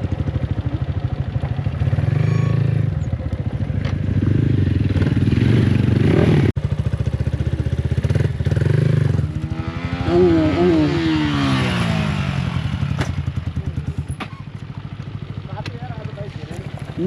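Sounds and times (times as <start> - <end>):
motorcycle engine exhaust beat: 0.0 - 17.0.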